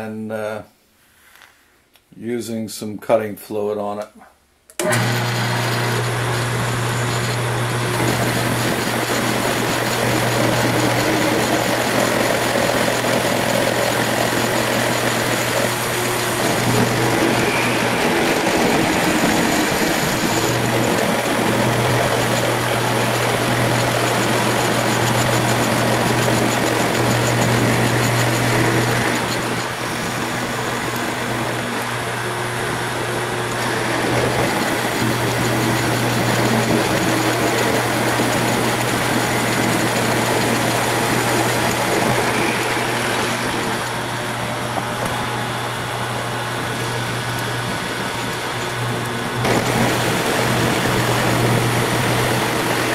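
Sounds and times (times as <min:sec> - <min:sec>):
milling machine cutting metal: 0:04.8 - 0:52.9.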